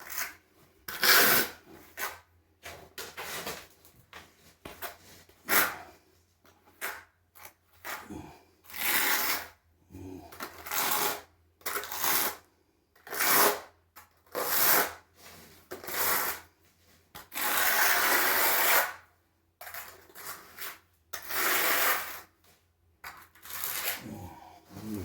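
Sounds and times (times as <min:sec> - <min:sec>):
trowel scraping mortar: 0:00.0 - 0:03.8, 0:04.4 - 0:25.0.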